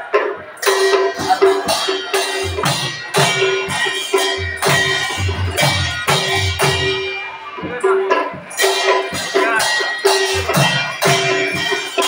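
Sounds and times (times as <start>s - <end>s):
deep drum beats: 0.1s - 12.0s
hand cymbals clashing: 0.1s - 12.0s.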